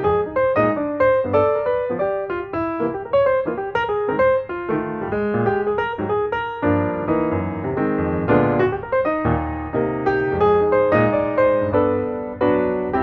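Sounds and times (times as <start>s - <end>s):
solo piano melody: 0.0s - 13.0s.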